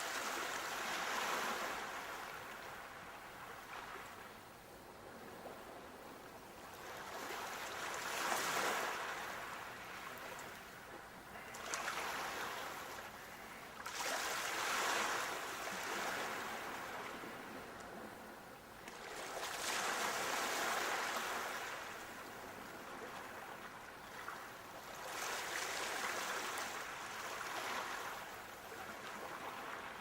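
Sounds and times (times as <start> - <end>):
sea waves washing in: 0.0 - 30.0.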